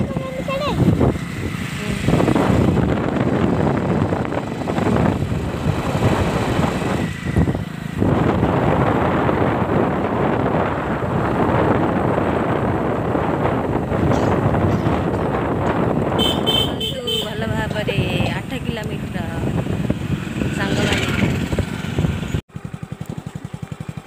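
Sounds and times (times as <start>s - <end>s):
wind rushing over microphone: 0.0s - 22.4s
motorbike engine and tyre noise: 0.0s - 24.0s.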